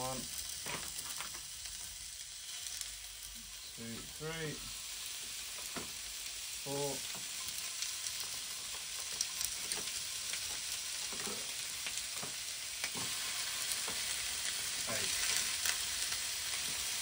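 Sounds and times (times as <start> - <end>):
lamb chops sizzling on grill: 0.0 - 17.0.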